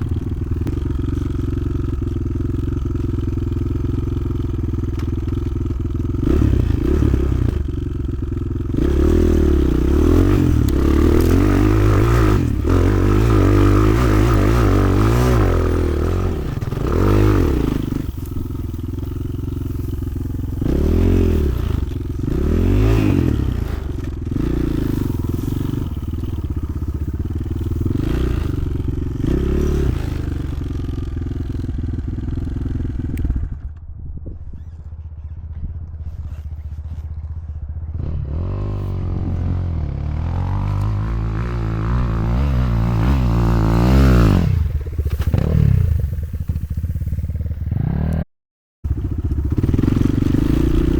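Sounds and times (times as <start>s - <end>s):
motorcycle engine revving: 0.0s - 33.8s, 34.5s - 48.3s, 48.9s - 50.9s.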